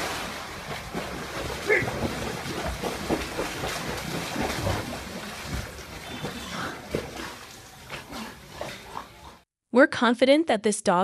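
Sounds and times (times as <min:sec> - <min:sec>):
water splashing from swimming dog: 0:00.0 - 0:09.4.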